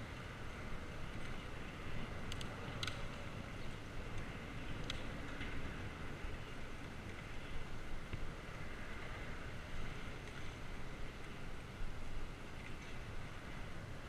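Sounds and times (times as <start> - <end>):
faint ticks from bike: 0.0 - 14.0.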